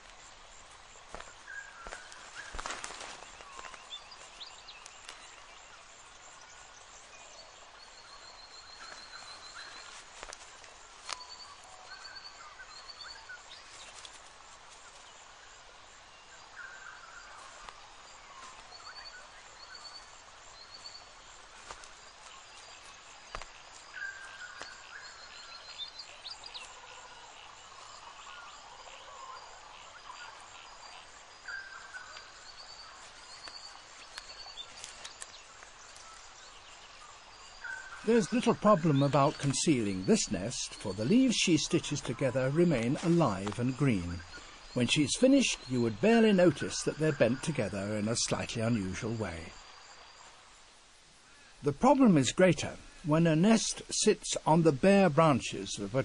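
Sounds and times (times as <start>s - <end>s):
lower bird chirps: 0.0s - 50.5s
birds trilling: 0.7s - 50.4s.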